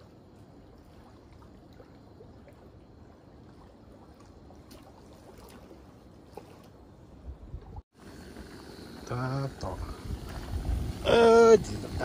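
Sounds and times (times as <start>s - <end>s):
small water splashes: 0.0s - 12.0s
small waves lapping at shore: 0.0s - 12.0s.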